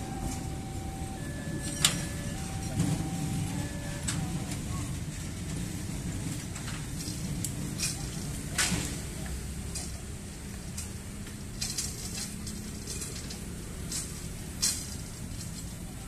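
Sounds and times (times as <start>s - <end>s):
bicycles clicking and rattling: 0.0s - 16.0s
train rumbling over rails: 0.0s - 16.0s.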